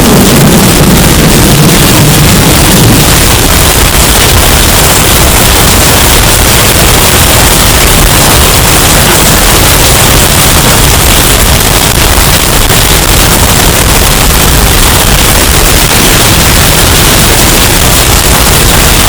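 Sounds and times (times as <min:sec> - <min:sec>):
distorted storm wind: 0:00.0 - 0:19.0.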